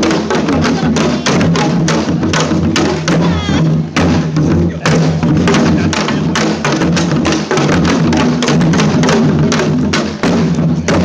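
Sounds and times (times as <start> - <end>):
fast dense drumming: 0.0 - 11.0.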